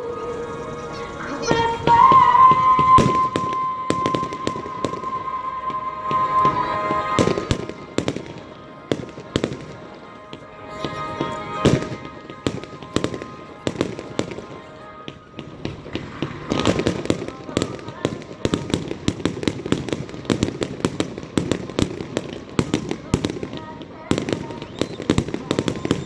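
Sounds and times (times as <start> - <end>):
music: 0.0 - 26.0
fireworks bangs and crackles: 1.5 - 26.0.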